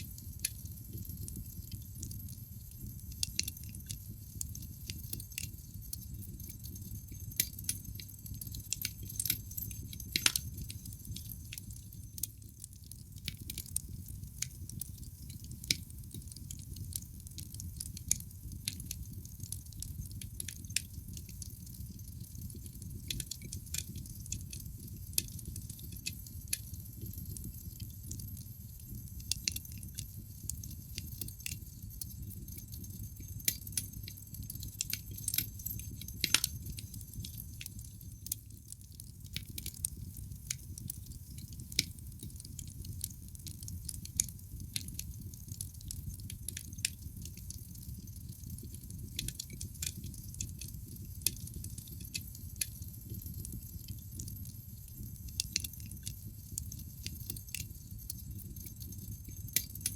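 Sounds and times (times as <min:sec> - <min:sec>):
logs crackling in fireplace: 0:00.0 - 0:59.9
low rumble of fire: 0:00.0 - 0:59.9.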